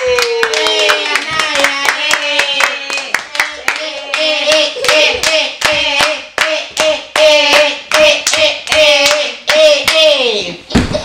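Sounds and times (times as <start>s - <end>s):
hands clapping in rhythm: 0.0s - 10.1s.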